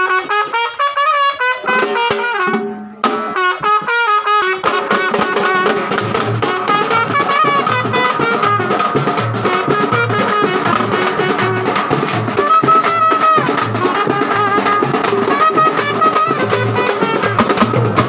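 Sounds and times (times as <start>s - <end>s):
brass band playing: 0.0s - 18.0s
drum steady beat: 0.0s - 18.0s.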